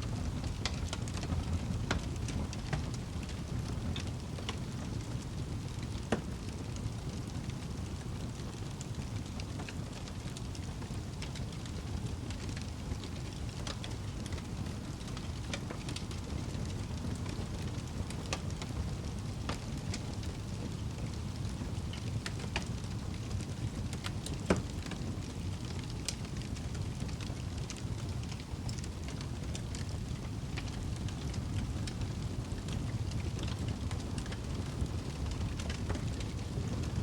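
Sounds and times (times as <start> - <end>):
fire flames rumbling: 0.0 - 37.0
wood fire crackling and popping: 0.0 - 37.0.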